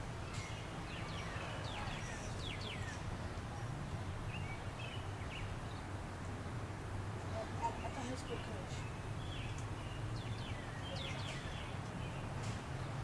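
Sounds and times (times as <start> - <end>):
birds chirping: 0.1 - 6.0, 7.2 - 12.6.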